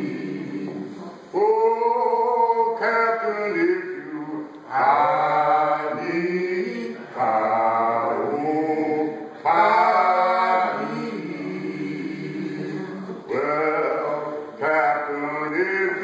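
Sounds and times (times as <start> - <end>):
male vocal group singing: 0.0 - 16.0.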